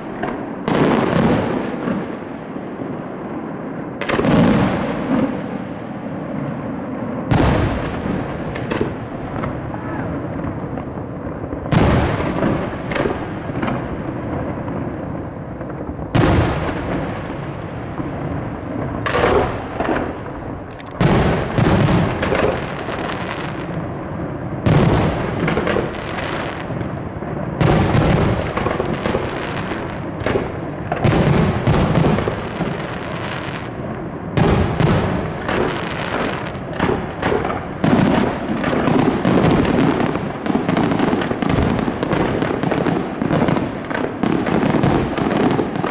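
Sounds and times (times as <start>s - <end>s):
firework shells booming: 0.0s - 45.9s
fireworks crackling: 0.0s - 45.9s.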